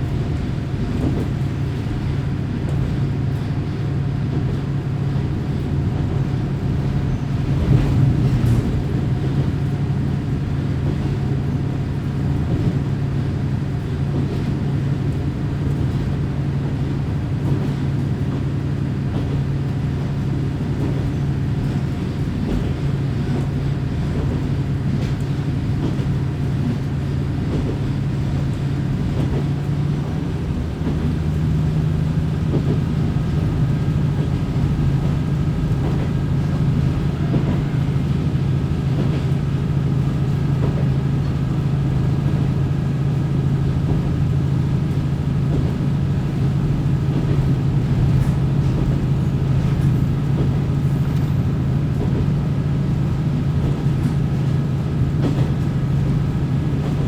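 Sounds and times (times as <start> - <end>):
railcar engine drone: 0.0 - 57.0.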